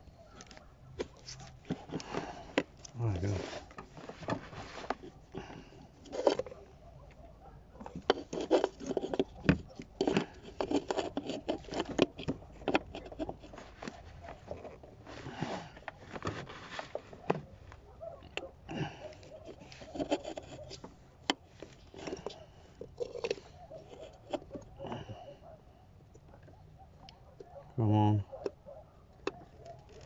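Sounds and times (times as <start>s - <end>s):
hand fumbling among plastic parts: 0.0s - 25.5s.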